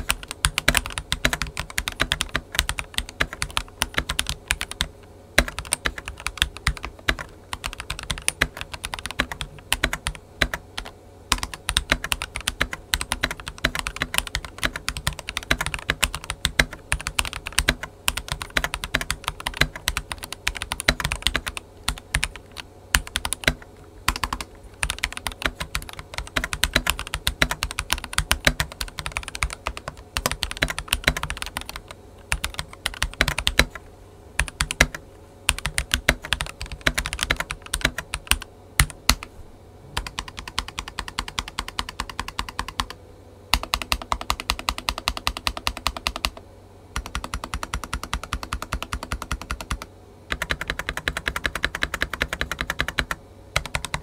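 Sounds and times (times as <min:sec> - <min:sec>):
mechanical keyboard typing: 0:00.0 - 0:33.8, 0:34.4 - 0:39.3, 0:40.0 - 0:46.4, 0:47.0 - 0:54.0.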